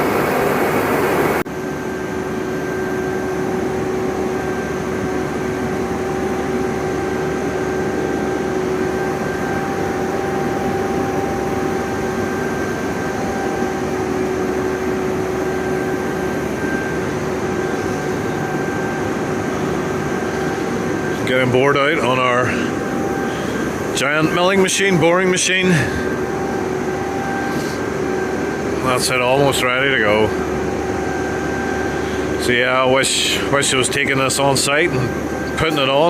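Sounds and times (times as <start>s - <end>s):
boring machine hum and whine: 0.0s - 36.0s.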